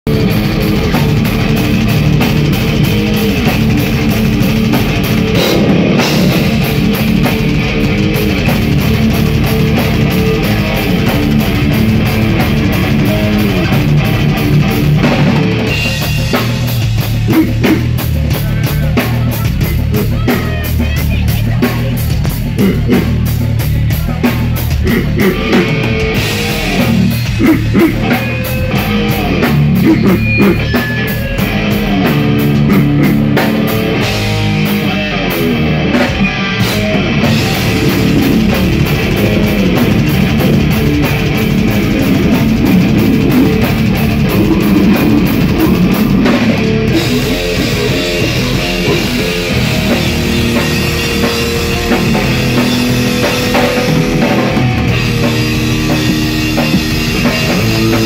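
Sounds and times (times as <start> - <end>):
metal band playing loud: 0.0 - 58.0.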